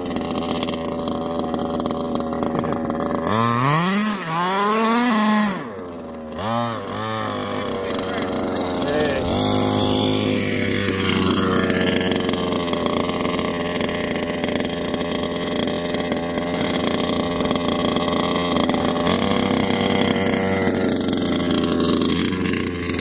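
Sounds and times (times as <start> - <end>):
rc buggy engine revving: 0.0 - 23.0.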